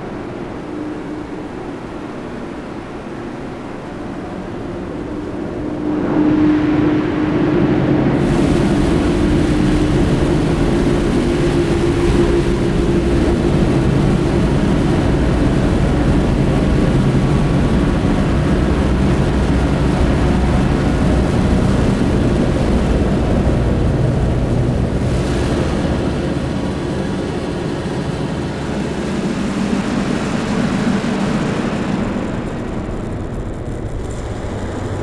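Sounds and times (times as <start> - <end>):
steady low hum: 0.0 - 35.0
spring rumbling drone: 4.3 - 35.0.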